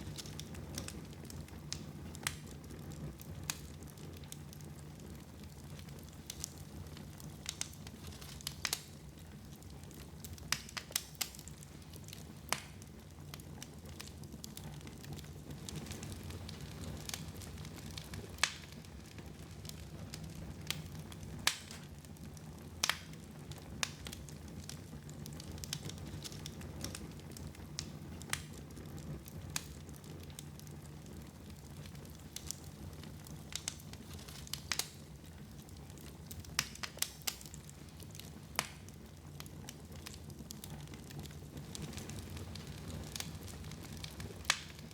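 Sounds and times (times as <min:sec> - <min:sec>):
sharp pops of fire: 0:00.0 - 0:44.9
wood fire crackling: 0:00.0 - 0:44.9.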